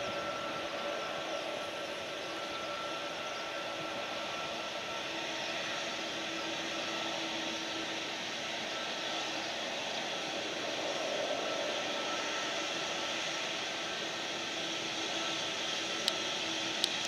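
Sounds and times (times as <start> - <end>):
faint engine whine: 0.0 - 17.0
jet engines rushing hiss: 0.0 - 17.0.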